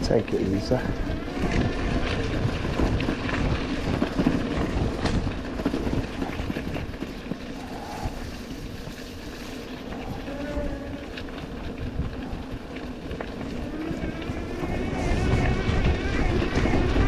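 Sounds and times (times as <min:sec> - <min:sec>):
electric bike rattling over rough ground: 0:00.0 - 0:17.0.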